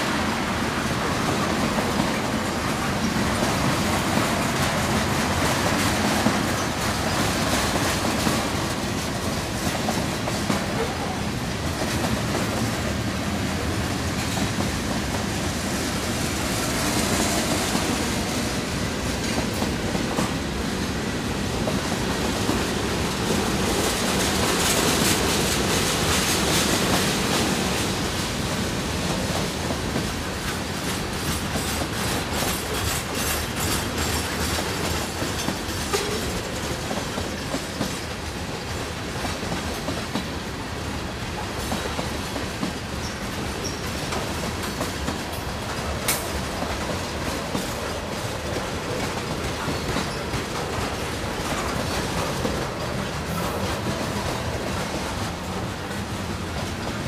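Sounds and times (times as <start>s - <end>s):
train wheels rolling on rails: 0.0s - 57.0s
wheels clacking over rail joints: 0.0s - 57.0s.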